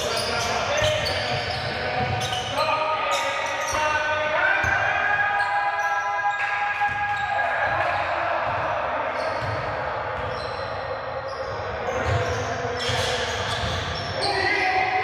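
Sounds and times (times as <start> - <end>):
sneakers squeaking: 0.0 - 15.0.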